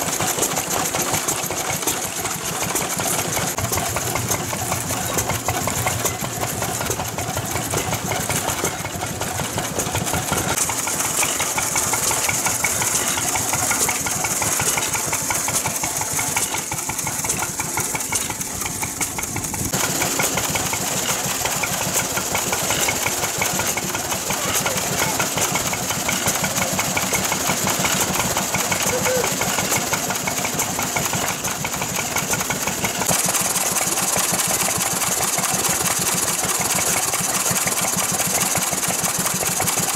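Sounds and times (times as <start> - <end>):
stationary engines running: 0.0 - 39.9.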